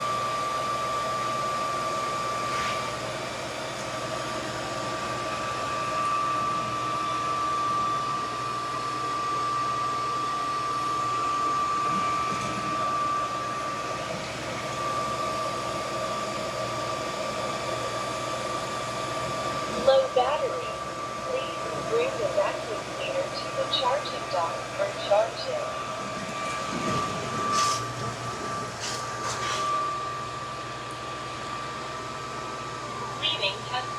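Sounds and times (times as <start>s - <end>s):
vacuum motor whine: 0.0s - 33.9s.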